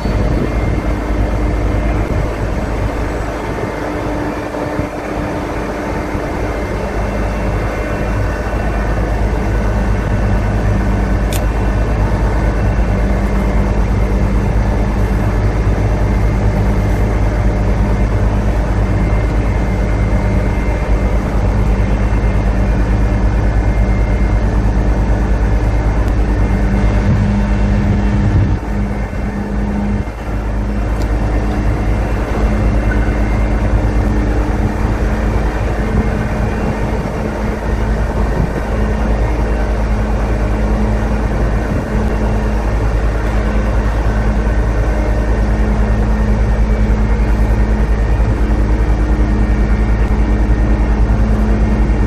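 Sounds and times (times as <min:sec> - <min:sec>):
heavy machinery engine droning: 0:00.0 - 0:52.0.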